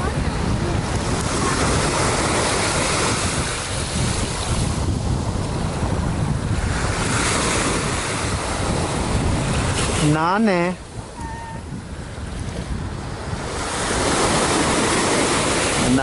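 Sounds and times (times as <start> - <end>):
sea water rushing: 0.0 - 16.0
wind buffeting microphone: 0.0 - 16.0.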